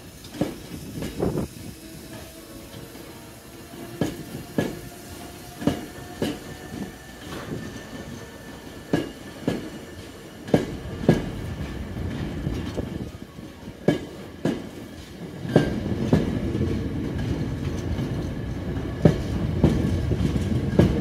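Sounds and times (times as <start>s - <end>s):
low train rumble: 0.0s - 21.0s.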